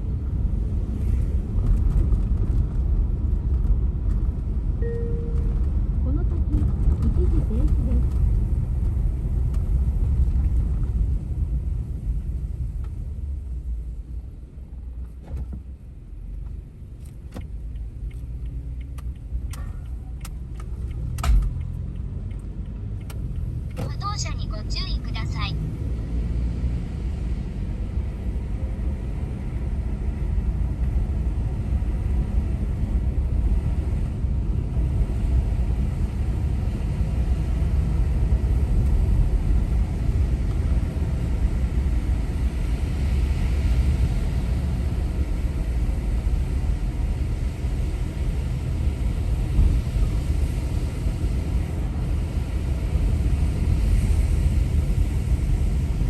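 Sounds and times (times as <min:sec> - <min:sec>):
van engine and road rumble: 0:00.0 - 0:56.0.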